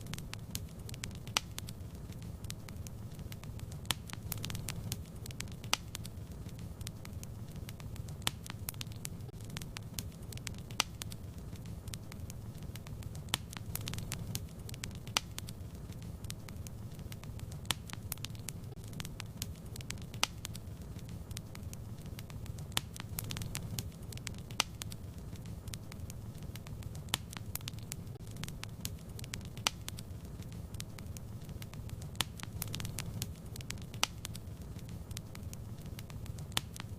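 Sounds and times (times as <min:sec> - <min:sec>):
fireplace fire crackling and popping: 0:00.0 - 0:36.9.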